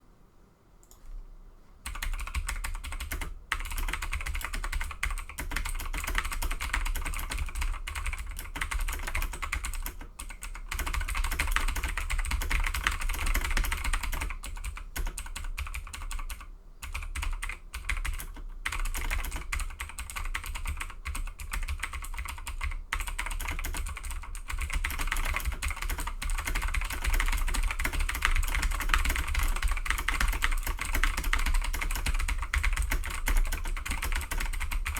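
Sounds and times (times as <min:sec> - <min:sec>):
mechanical keyboard typing: 0:01.9 - 0:34.9.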